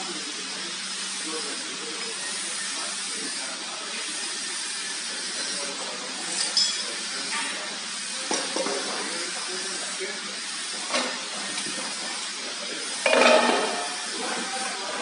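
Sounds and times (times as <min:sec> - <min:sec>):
steady workshop hiss: 0:00.0 - 0:15.0.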